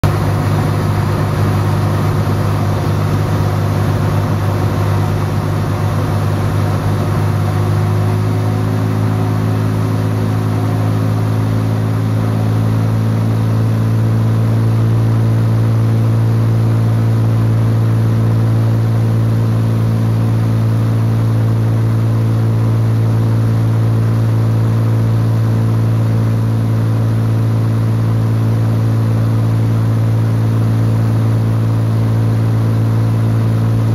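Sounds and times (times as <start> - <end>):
light aircraft engine drone: 0.0 - 33.9.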